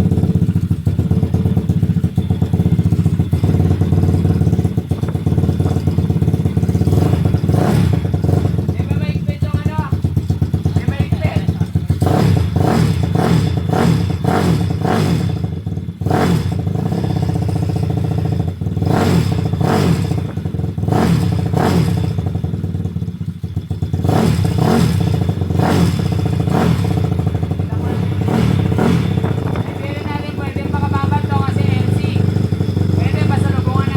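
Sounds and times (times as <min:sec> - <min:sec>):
engine running with clattering exhaust: 0:00.0 - 0:33.9.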